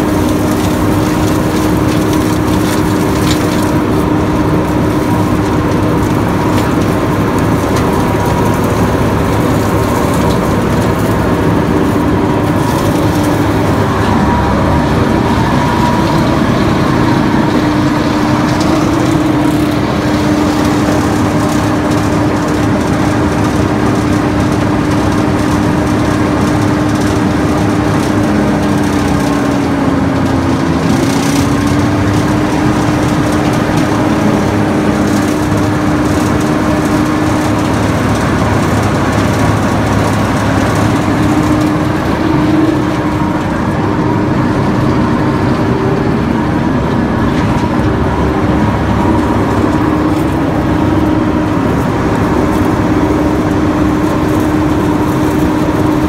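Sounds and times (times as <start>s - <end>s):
grinder machine droning: 0.0s - 56.0s.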